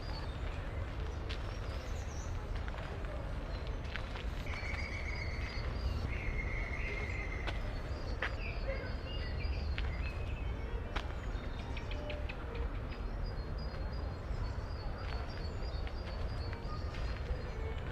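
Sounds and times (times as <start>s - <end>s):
birds calling and chirping: 0.0s - 17.9s
distant city traffic rumble: 0.0s - 17.9s.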